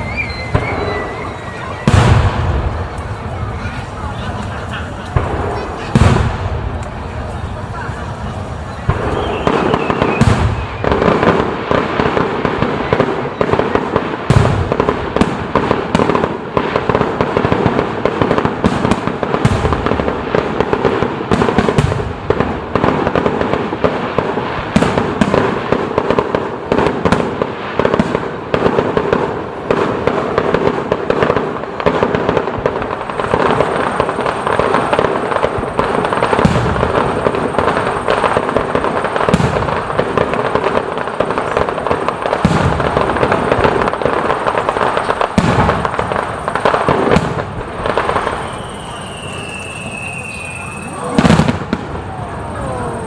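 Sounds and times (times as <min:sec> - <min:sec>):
fireworks crackling and banging: 0:00.0 - 0:53.0.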